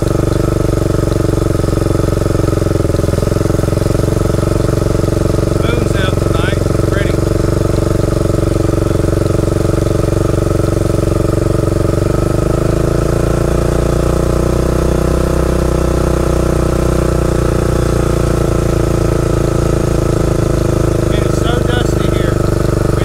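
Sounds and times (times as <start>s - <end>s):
three-wheeler engine running: 0.0s - 23.0s.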